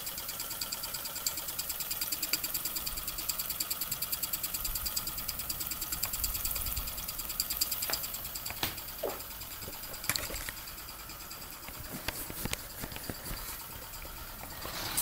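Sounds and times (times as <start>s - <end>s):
small steam engine ticking: 0.0s - 15.0s.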